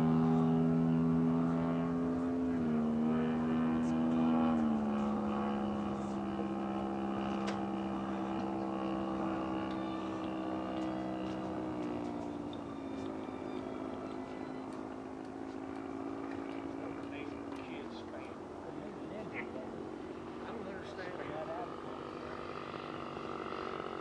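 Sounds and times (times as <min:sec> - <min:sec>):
model plane engine and propeller: 0:00.0 - 0:24.0.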